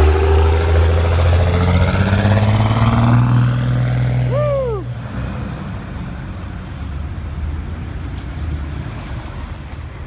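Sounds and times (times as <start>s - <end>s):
road noise: 0.0s - 10.0s
truck diesel engine rumbling: 0.0s - 10.0s.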